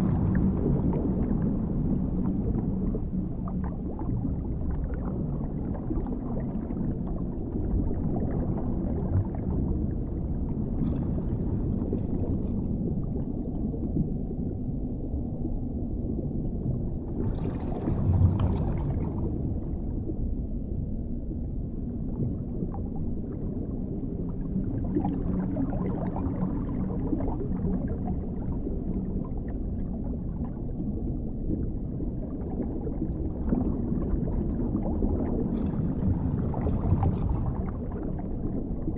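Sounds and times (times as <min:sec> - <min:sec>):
underwater rumble of water: 0:00.0 - 0:38.9.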